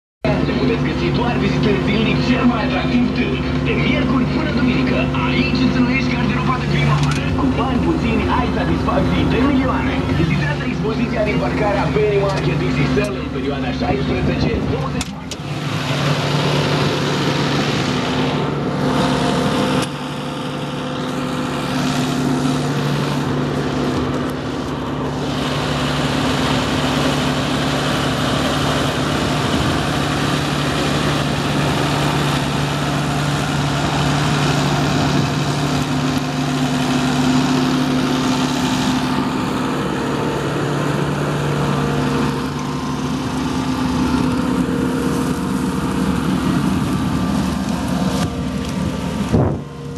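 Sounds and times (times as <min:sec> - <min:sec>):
tractor diesel engine drone: 0:00.2 - 0:49.9.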